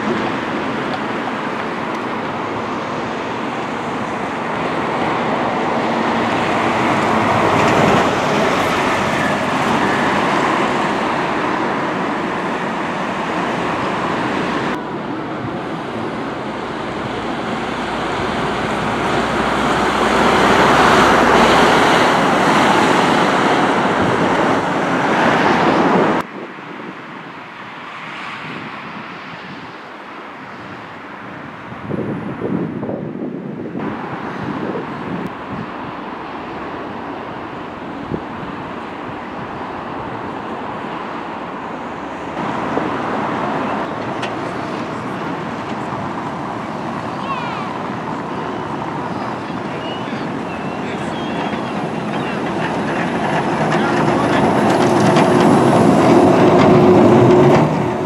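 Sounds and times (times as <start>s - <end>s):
buses passing: 0.0s - 58.0s
distant traffic: 0.0s - 58.0s
wind: 0.0s - 58.0s.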